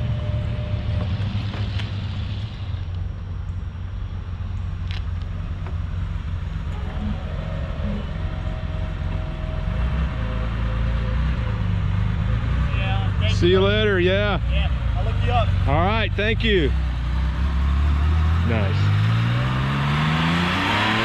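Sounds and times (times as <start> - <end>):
car engine running at low speed: 0.0 - 21.0.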